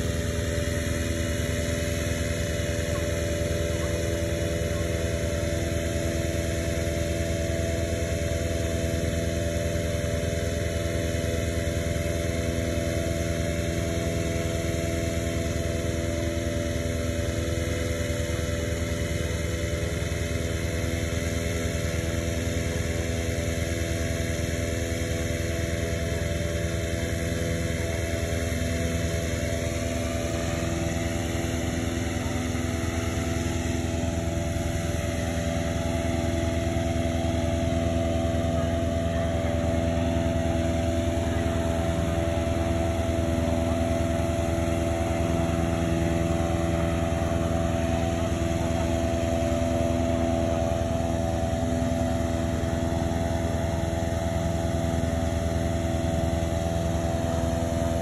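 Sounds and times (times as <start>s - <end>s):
engine inflator fan running: 0.0s - 58.0s.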